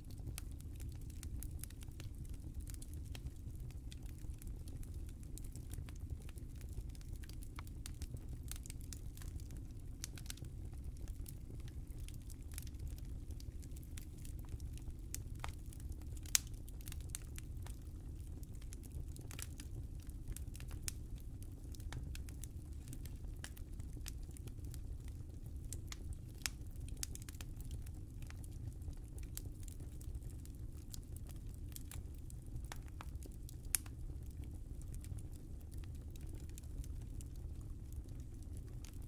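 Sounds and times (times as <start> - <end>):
fire crackling: 0.1 - 39.0
fire rumbling: 0.1 - 39.0
fire popping: 0.2 - 39.0.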